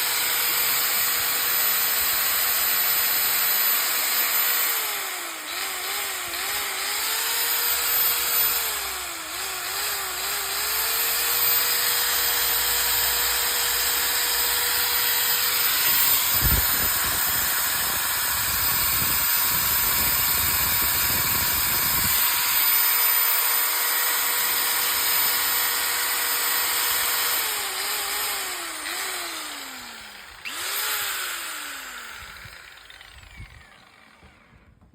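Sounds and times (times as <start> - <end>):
angle grinder whining: 0.0 - 34.8.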